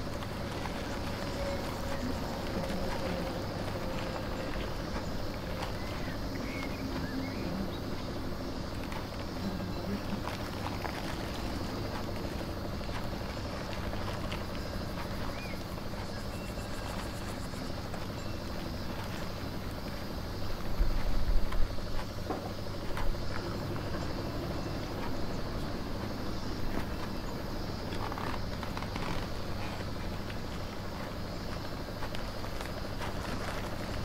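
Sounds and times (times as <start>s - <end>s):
steady machine hum: 0.0s - 34.0s.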